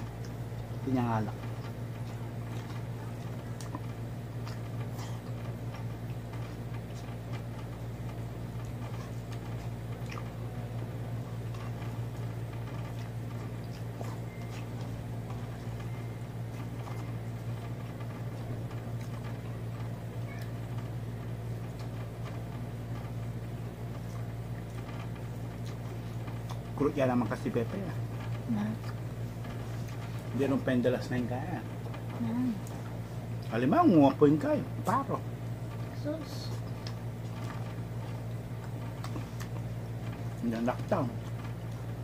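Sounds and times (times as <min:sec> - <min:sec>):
chewing: 0:00.0 - 0:30.7, 0:35.7 - 0:42.0
steady low hum: 0:00.0 - 0:42.0.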